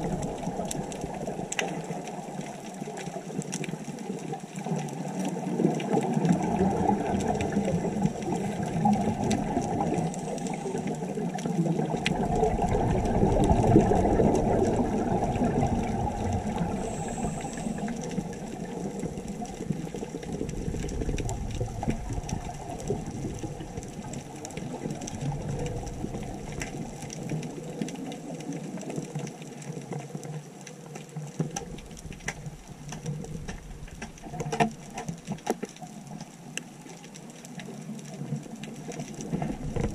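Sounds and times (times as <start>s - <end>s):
underwater rushing and bubbling: 0.0s - 39.9s.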